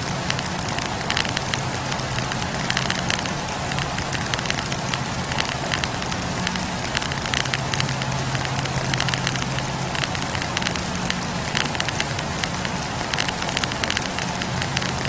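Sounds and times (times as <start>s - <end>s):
campfire crackling and popping: 0.0s - 15.0s
low steady hum: 0.0s - 15.0s.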